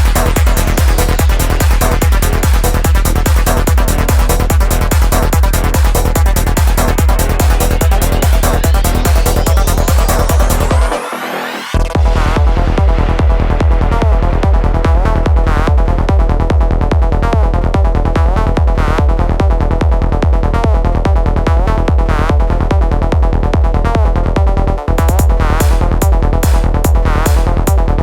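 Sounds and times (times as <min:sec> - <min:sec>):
electronic trance music: 0:00.0 - 0:28.0.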